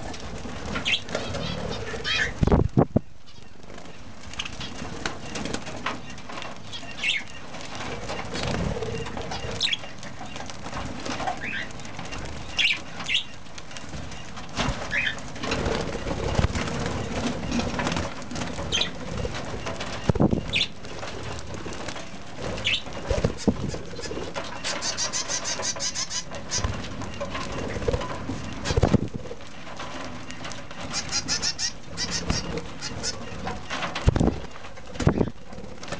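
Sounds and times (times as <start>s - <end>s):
birds chirping: 0.0s - 35.9s
birds flapping wings: 0.0s - 35.9s.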